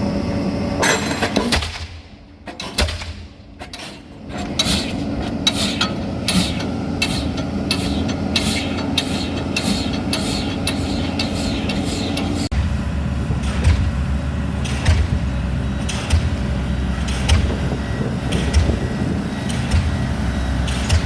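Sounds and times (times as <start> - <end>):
rig engine running: 3.6 - 21.0.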